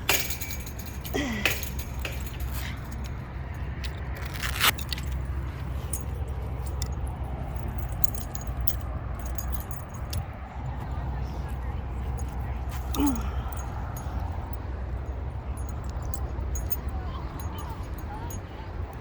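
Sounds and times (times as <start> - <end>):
metallic clinks and clacks: 0.0 - 19.0.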